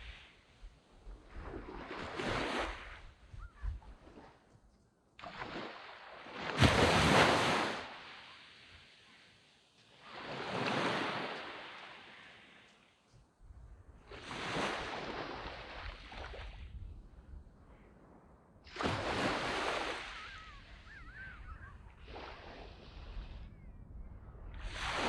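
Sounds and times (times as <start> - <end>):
waves breaking on sandy beach: 0.0 - 4.5, 5.2 - 25.0.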